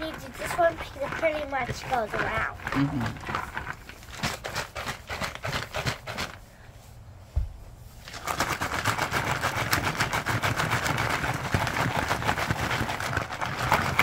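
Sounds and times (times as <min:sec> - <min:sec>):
stones rattling in tumbler barrel: 0:00.0 - 0:06.4, 0:08.0 - 0:14.0.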